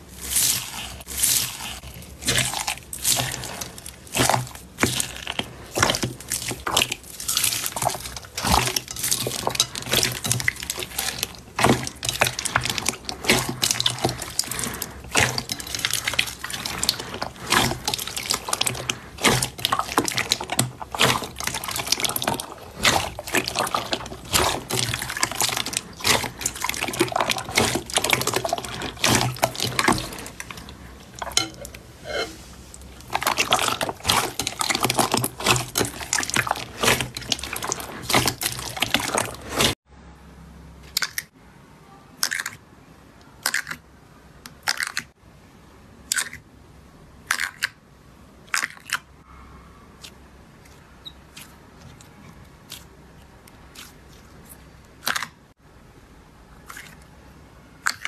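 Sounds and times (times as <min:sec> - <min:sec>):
hands squishing wet slime: 0:00.0 - 0:39.8, 0:44.5 - 0:45.1, 0:46.1 - 0:46.4, 0:47.2 - 0:47.8, 0:48.4 - 0:49.1, 0:50.0 - 0:55.5, 0:56.5 - 0:57.1, 0:57.8 - 0:58.0.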